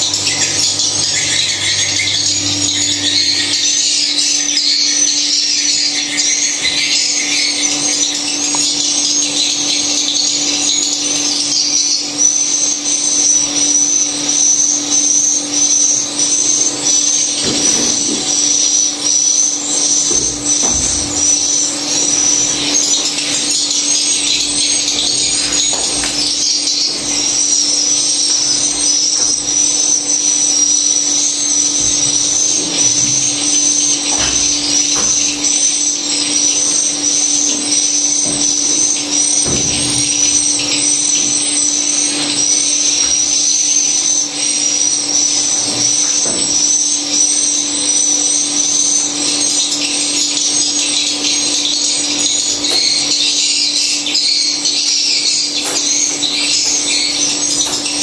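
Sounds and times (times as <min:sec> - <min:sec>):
swiftlets twittering: 0:00.0 - 0:58.0.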